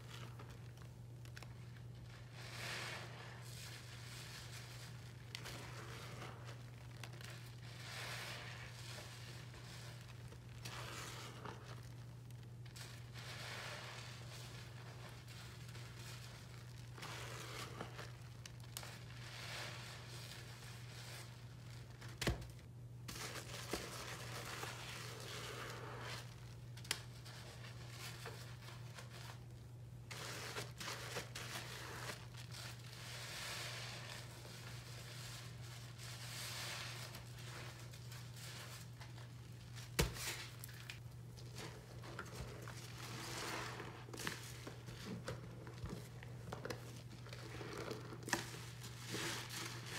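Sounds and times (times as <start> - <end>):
sponge scrubbing sink: 2.0 - 22.0, 23.1 - 26.4, 30.1 - 40.8, 41.4 - 49.9.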